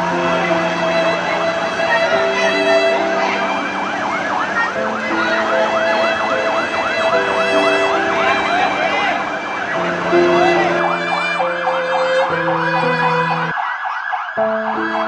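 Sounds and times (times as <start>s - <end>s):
background music held notes: 0.0s - 13.5s
fast yelping siren: 0.3s - 14.8s.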